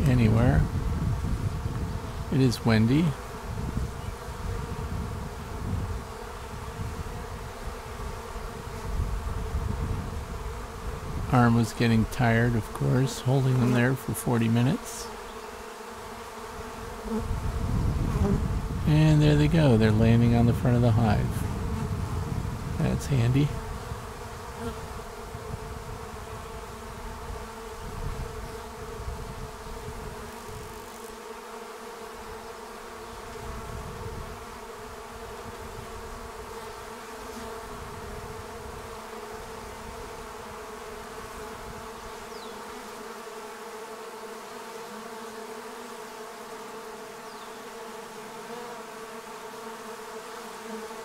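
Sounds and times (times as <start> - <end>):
bees buzzing: 0.0 - 51.0.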